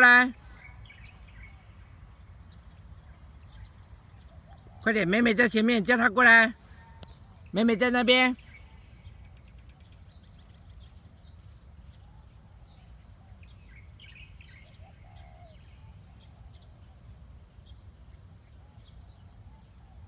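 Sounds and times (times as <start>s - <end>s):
low outdoor rumble: 0.0s - 20.0s
lower warbling bird calls: 0.0s - 20.0s
small birds chirping: 0.0s - 20.0s.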